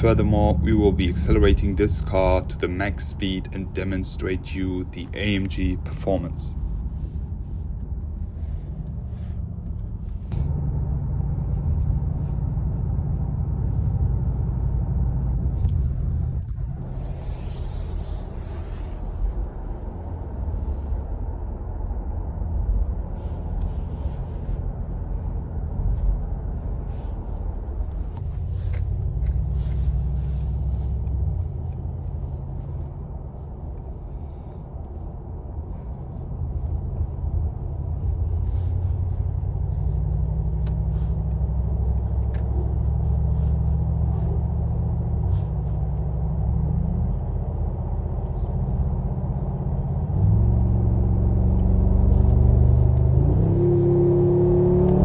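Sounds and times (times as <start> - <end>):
car engine at motorway speed: 0.0 - 55.0
road rumble: 0.0 - 55.0.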